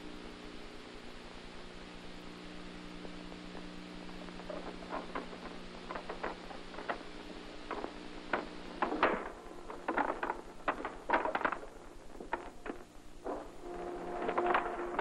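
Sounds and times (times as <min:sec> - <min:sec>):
mains hum and hiss: 0:00.0 - 0:15.0.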